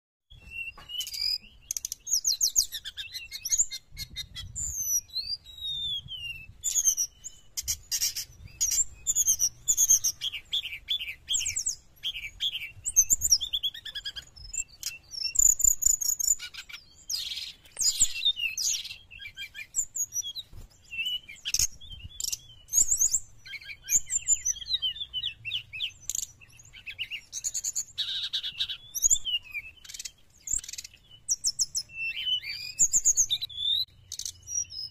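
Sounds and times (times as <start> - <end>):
bird singing warbling trills: 0.3 - 34.9.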